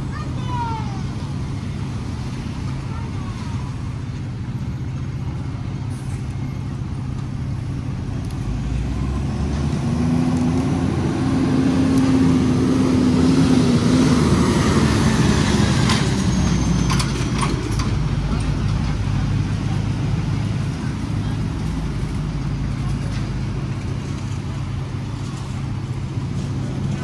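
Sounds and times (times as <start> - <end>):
lorry engine passing by: 0.0 - 27.0
street traffic rumbling: 0.0 - 27.0.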